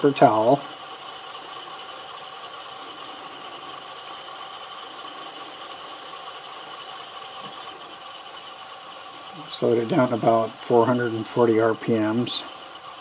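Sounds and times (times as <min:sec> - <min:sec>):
paper towel rubbing on spinning wood: 0:00.0 - 0:13.0
wood lathe motor hum: 0:00.0 - 0:13.0.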